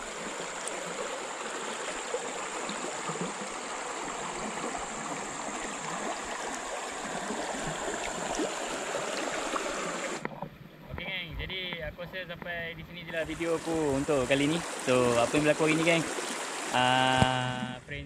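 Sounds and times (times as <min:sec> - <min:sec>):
river water rushing: 0:00.0 - 0:10.2, 0:13.1 - 0:17.6
small splashes: 0:00.0 - 0:10.5, 0:13.2 - 0:17.6.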